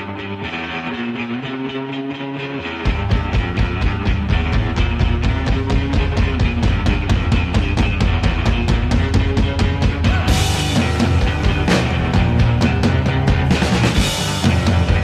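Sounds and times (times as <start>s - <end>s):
drums: 0.0s - 15.0s
rock band playing: 0.0s - 15.0s.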